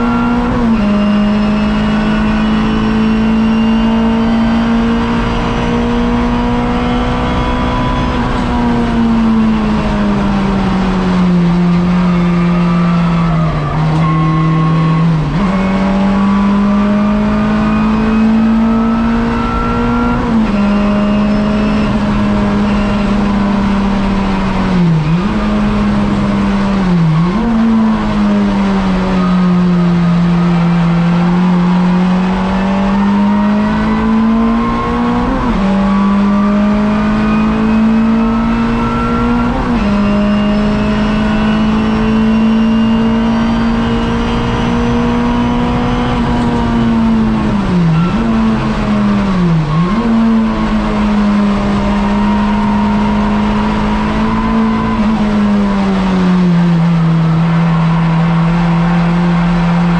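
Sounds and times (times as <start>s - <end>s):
racing car engine at high revs: 0.0s - 59.9s.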